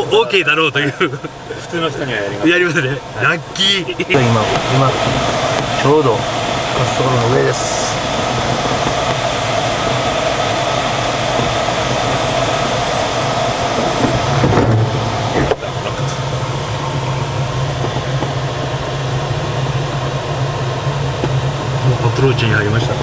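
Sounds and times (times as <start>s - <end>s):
rush of airflow in cockpit: 0.0s - 23.0s.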